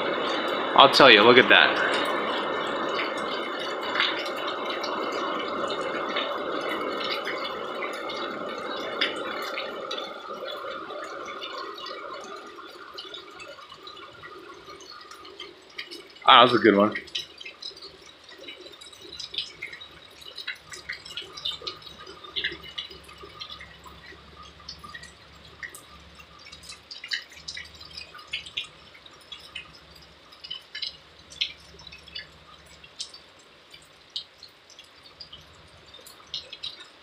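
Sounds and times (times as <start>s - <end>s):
rain dripping on hard surfaces: 0.0s - 37.0s.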